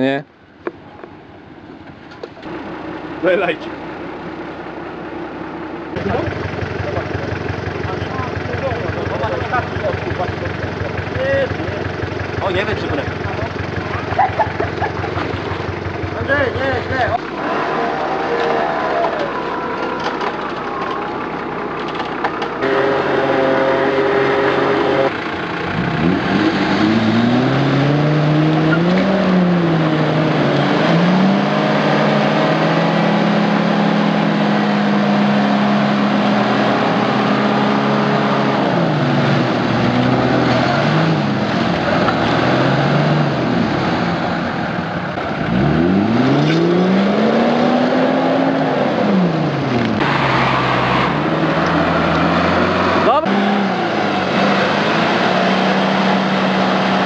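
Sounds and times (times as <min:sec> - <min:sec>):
off-road engines revving: 0:00.0 - 0:57.0.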